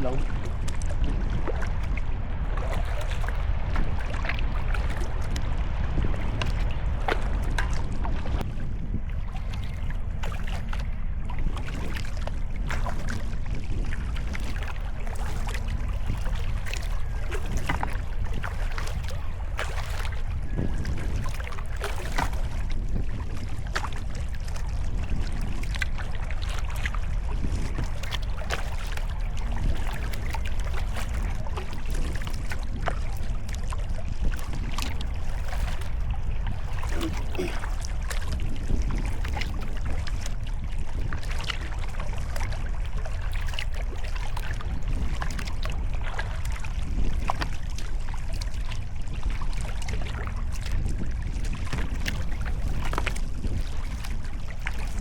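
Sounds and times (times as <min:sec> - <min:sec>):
low wind rumble on microphone: 0:00.0 - 0:55.0
paddle strokes splashing water: 0:00.0 - 0:55.0.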